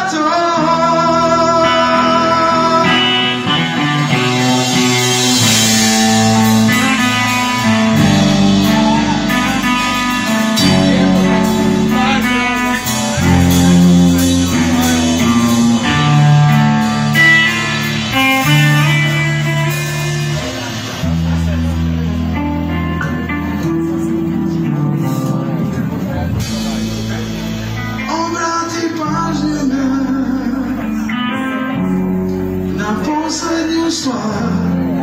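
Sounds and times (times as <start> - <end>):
live band playing: 0.0 - 35.0.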